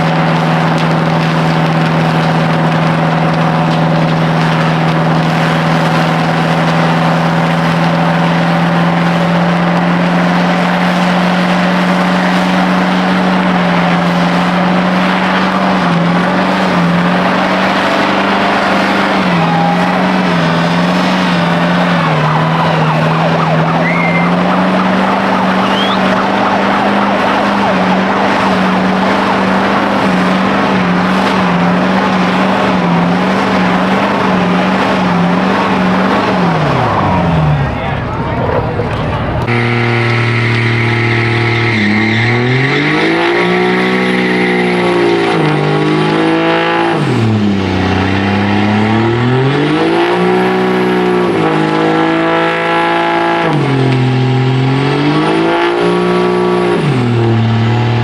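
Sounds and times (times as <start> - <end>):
diesel truck engine revving: 0.0 - 58.0
spinning tyres rushing: 0.0 - 58.0.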